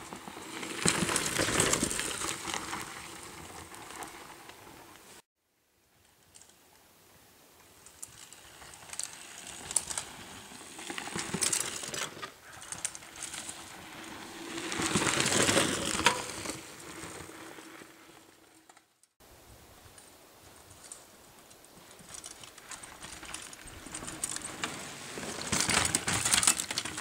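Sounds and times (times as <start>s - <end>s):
bike tyres crunching on gravel: 0.0s - 5.2s, 7.8s - 18.8s, 20.4s - 27.0s.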